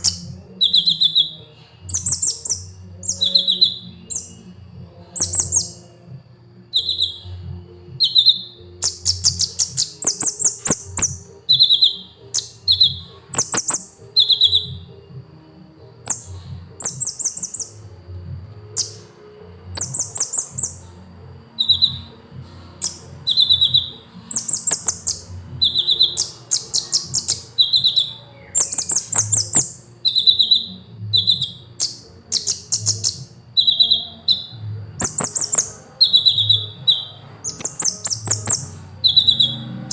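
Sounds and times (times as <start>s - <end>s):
bird chirping and trilling: 0.0s - 5.9s, 6.7s - 15.1s, 15.9s - 18.0s, 18.7s - 39.9s.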